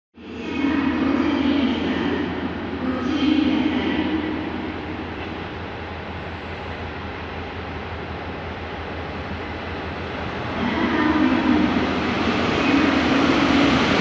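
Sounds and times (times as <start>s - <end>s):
electric train rumbling: 0.2s - 14.0s.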